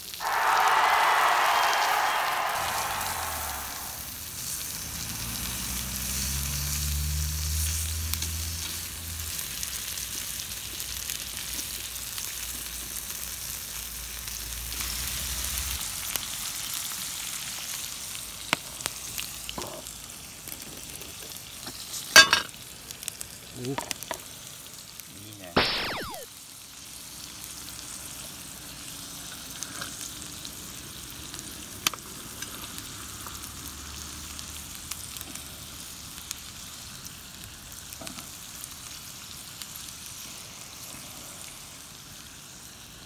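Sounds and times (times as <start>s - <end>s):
food sizzling on griddle: 4.2s - 43.0s.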